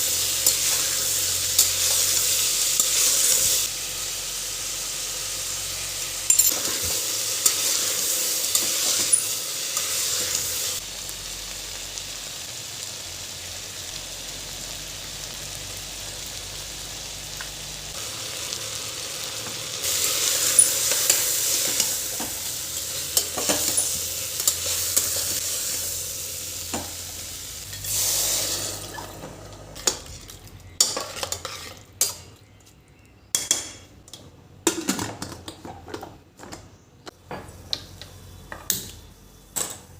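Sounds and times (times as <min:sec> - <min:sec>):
food sizzling in a pan: 0:00.0 - 0:32.2.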